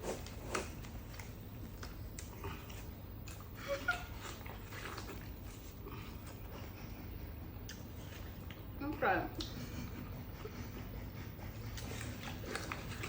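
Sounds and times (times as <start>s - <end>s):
people eating watermelon: 0.0s - 13.0s.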